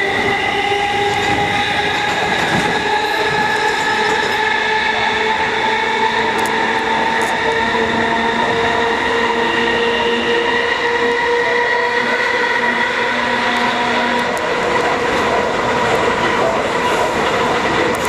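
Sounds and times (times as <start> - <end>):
train motor whine: 0.0 - 18.0
wheels rumbling on track: 0.0 - 18.0.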